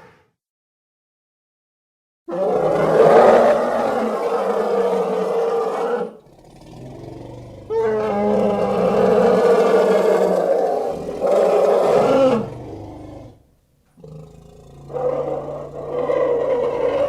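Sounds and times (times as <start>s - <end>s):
monster roar: 2.3s - 13.4s, 14.0s - 17.0s.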